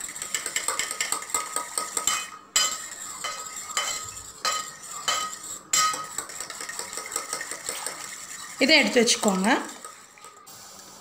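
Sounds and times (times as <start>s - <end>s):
fork beating eggs in metal bowl: 0.0s - 10.4s.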